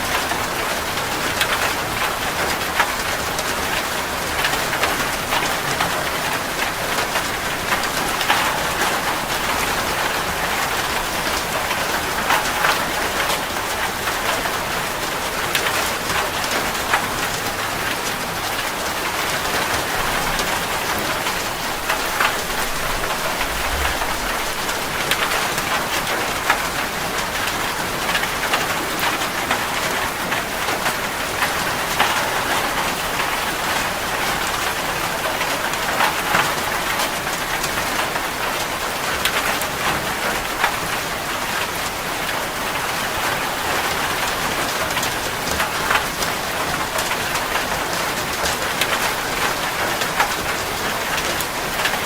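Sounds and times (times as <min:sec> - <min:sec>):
heavy rain on metal roof: 0:00.0 - 0:52.0.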